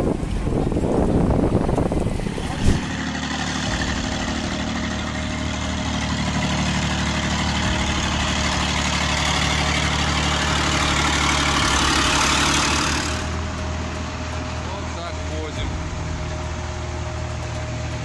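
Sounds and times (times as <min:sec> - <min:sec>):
truck diesel engine under load: 0:00.0 - 0:18.0.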